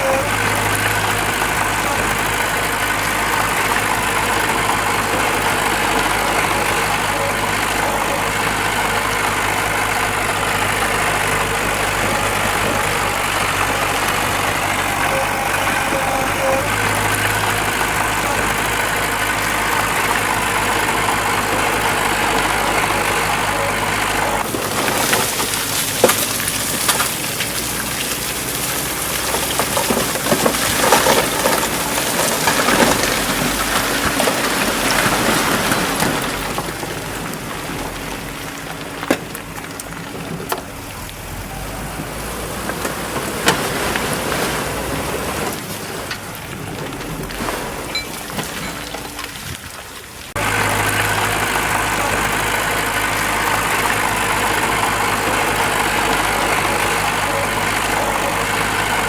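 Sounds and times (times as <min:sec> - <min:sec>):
diesel engine idling: 0:00.0 - 0:59.0
rushing crackling noise: 0:00.0 - 0:59.0.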